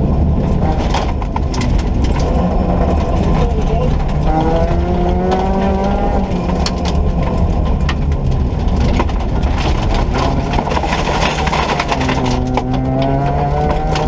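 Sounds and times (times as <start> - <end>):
car engine running hard: 0.0 - 14.0
road noise rumble: 0.0 - 14.0.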